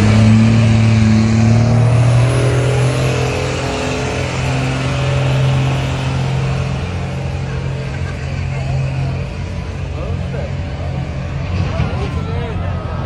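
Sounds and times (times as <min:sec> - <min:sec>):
diesel engine under heavy load: 0:00.0 - 0:13.0.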